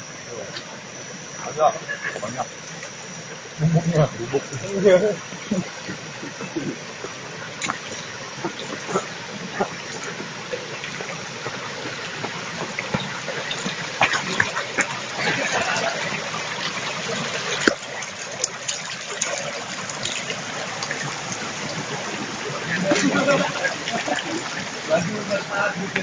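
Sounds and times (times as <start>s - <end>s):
stream trickling over rocks: 0.0s - 26.0s.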